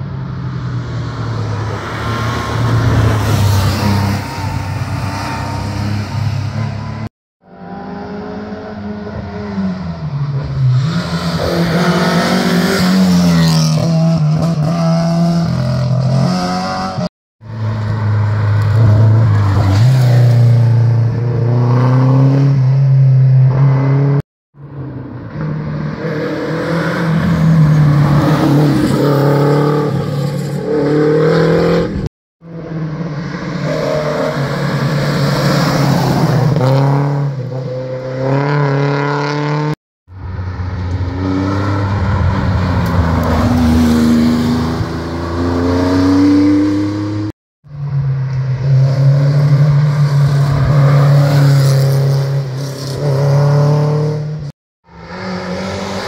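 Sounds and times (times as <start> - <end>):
rally cars passing at speed: 0.0 - 56.0.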